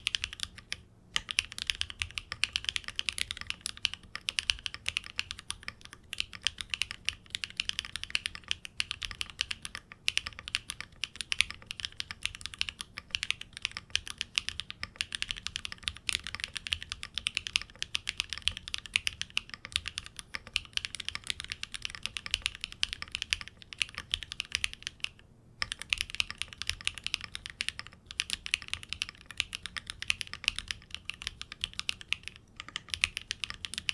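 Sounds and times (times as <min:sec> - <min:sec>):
fast typing on mechanical keyboard: 0:00.0 - 0:33.9.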